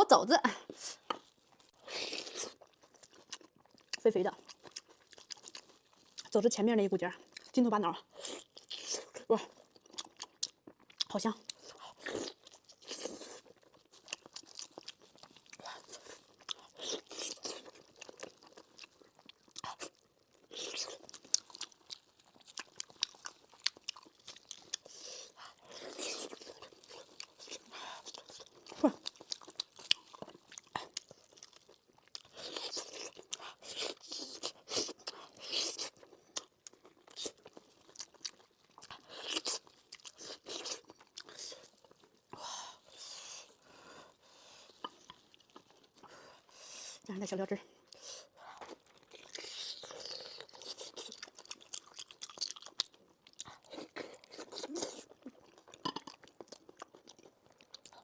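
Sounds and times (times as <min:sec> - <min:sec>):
chewing mouth clicks and smacks: 0:02.5 - 0:06.4, 0:09.6 - 0:43.0, 0:47.9 - 0:58.0.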